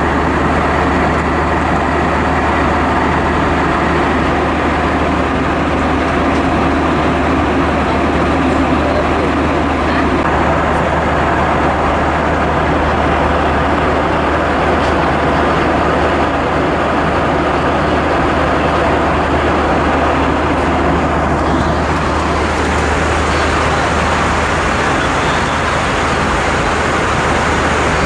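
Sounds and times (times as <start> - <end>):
airflow rush in cabin: 0.0 - 28.0
low engine hum: 0.0 - 28.0.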